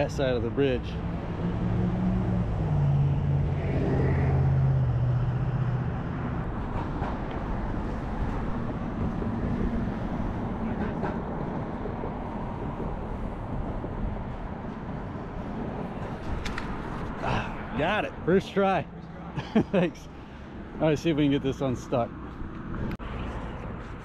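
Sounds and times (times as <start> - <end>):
road traffic rumble: 0.0 - 24.0
vehicle engine hum: 0.0 - 24.0.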